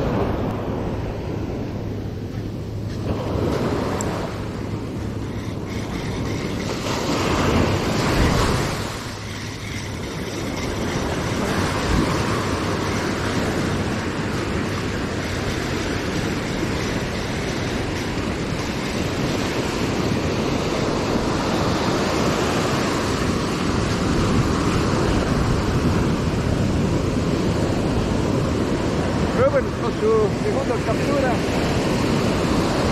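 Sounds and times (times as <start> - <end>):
surf washing up a sandy beach: 0.0 - 32.9
wind buffeting the microphone: 0.0 - 32.9.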